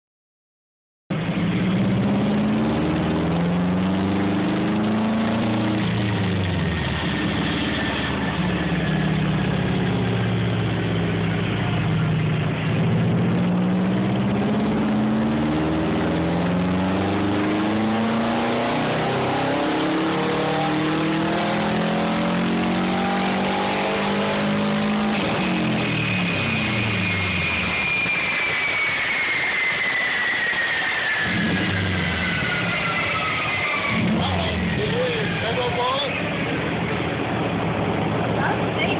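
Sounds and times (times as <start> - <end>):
turbocharged car engine revving: 1.1 - 38.9
high whine sliding down: 1.2 - 38.9.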